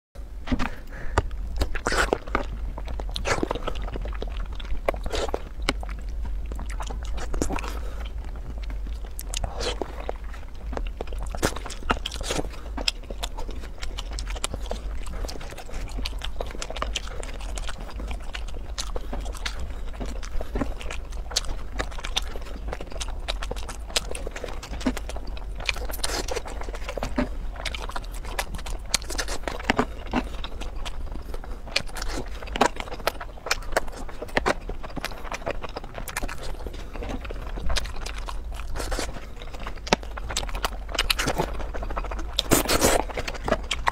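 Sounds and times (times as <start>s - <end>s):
steady low hum: 0.2s - 43.9s
wet chewing of food: 0.5s - 43.9s.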